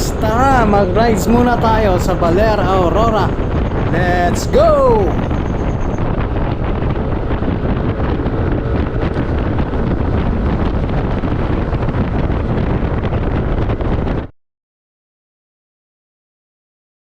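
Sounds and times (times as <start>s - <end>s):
motorcycle and road noise: 0.0s - 14.3s
wind noise on microphone: 0.0s - 14.3s.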